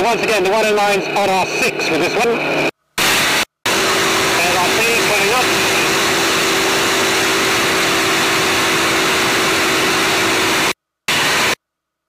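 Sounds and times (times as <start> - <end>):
propeller aircraft engine drone: 0.0 - 11.5.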